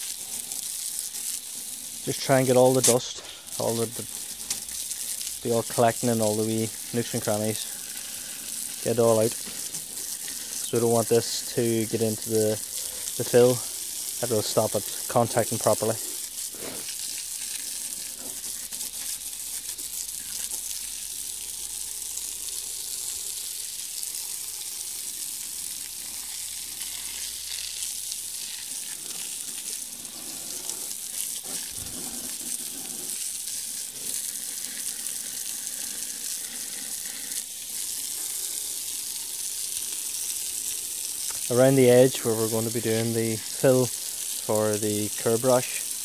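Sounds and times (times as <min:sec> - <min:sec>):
water jet spraying onto wheel: 0:00.0 - 0:46.0.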